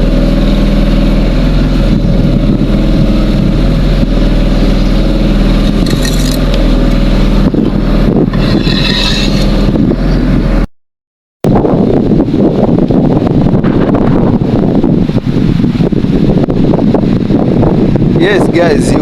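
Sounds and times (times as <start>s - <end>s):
engine running steadily: 0.0s - 10.7s, 11.4s - 19.0s.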